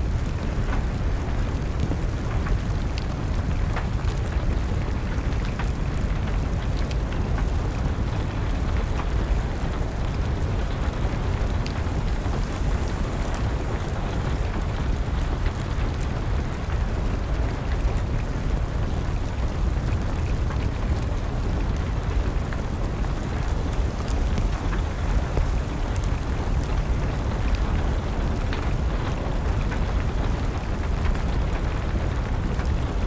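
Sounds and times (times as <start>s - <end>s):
steady rain rumble: 0.0s - 33.0s
wood fire crackling: 0.0s - 33.0s.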